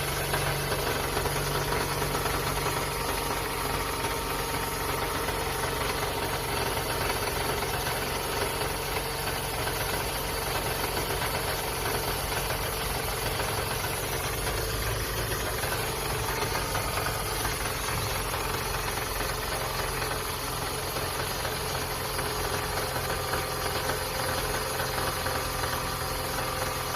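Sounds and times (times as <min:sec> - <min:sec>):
car engine running: 0:00.0 - 0:26.9
engine knocking and rattling: 0:00.0 - 0:26.9.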